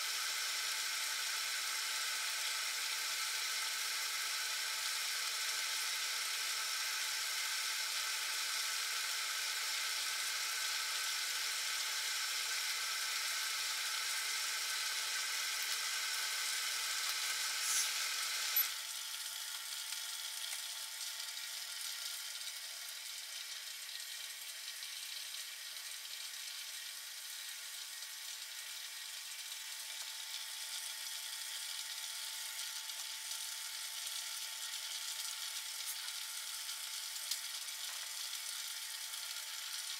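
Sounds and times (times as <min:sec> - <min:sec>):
alcohol stove hissing: 0:00.0 - 0:39.9.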